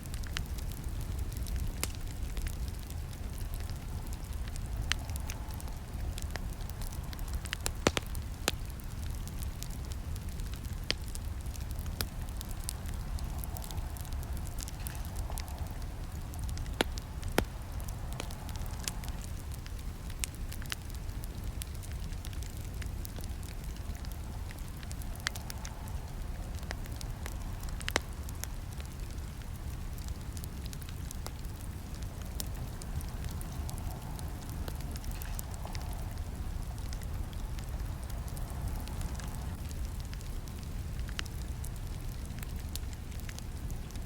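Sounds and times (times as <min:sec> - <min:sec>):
burning wood popping and snapping: 0:00.0 - 0:44.0
campfire crackling: 0:00.0 - 0:44.0.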